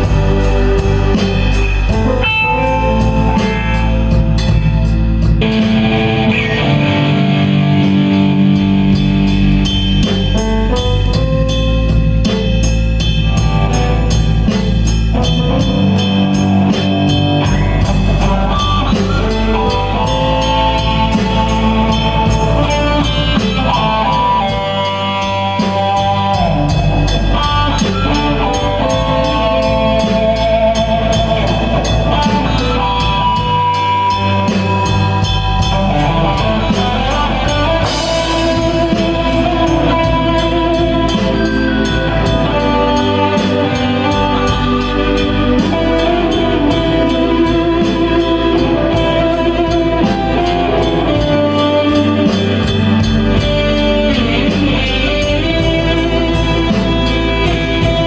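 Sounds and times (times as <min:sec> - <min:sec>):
bass line: 0:00.0 - 0:58.0
drum kit steady beat: 0:00.0 - 0:58.0
electric guitar lead: 0:00.0 - 0:58.0.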